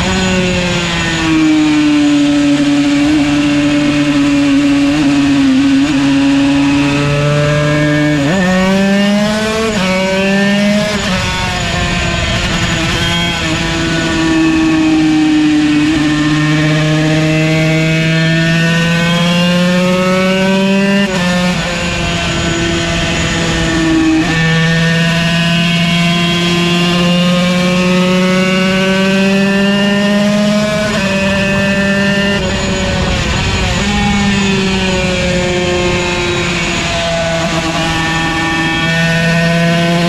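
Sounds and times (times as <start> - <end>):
two-stroke race engine revving: 0.0 - 40.0.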